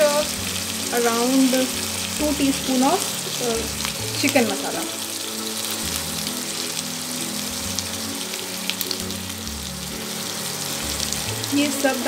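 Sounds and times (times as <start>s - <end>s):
chicken sizzling in gravy: 0.0s - 12.0s
soft background music: 0.0s - 12.0s.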